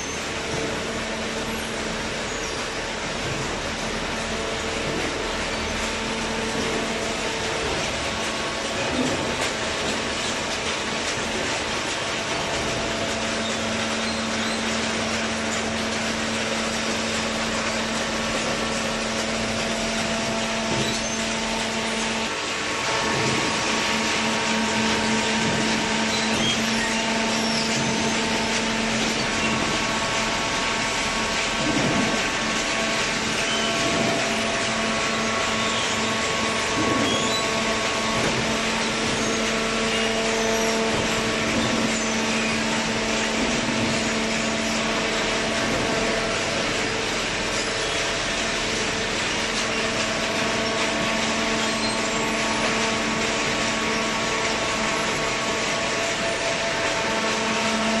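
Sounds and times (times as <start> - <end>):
baler mechanical hum: 0.0 - 58.0.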